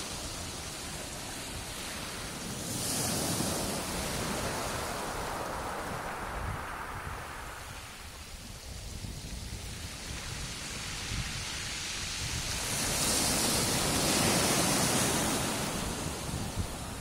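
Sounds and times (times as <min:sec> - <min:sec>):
waves washing up a pebble beach: 0:00.0 - 0:17.0.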